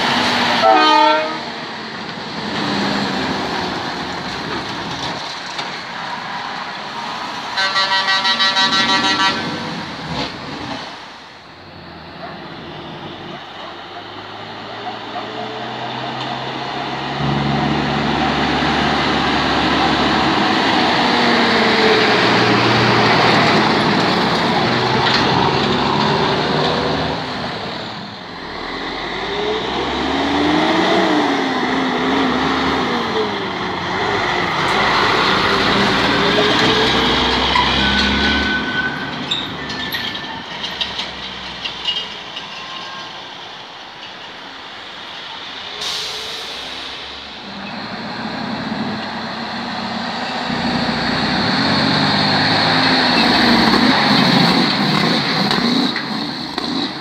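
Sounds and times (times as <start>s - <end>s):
trucks driving past: 0.0s - 57.0s.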